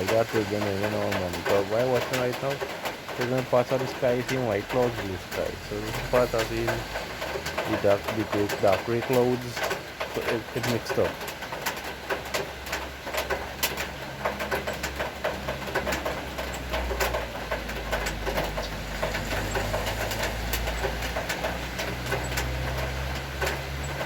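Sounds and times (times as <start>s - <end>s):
rain falling: 0.0s - 24.0s
raindrops ticking: 0.0s - 24.0s.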